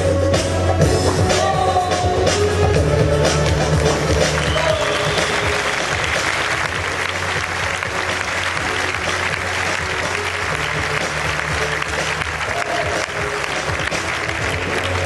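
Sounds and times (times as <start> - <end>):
backing music with bass line: 0.0 - 15.0
audience applause and cheering: 2.7 - 15.0.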